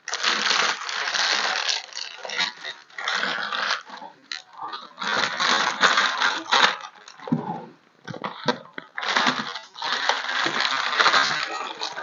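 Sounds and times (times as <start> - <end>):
plastic packaging crinkling: 0.0 - 7.4, 8.0 - 12.0.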